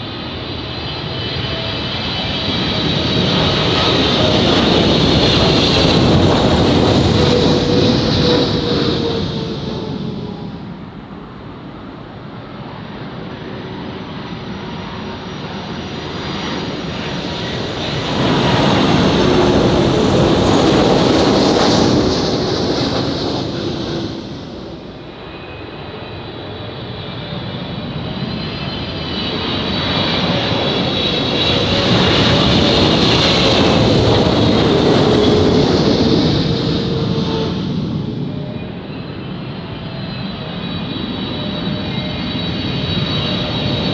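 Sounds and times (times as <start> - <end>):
jet airliner engine rumble and whine: 0.0 - 43.9.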